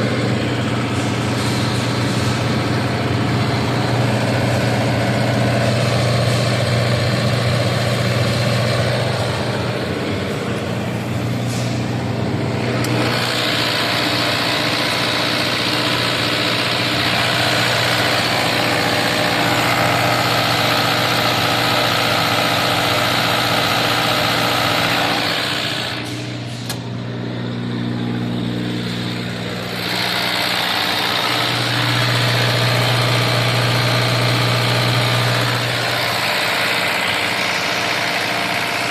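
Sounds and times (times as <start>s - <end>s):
diesel generator droning: 0.0s - 38.9s.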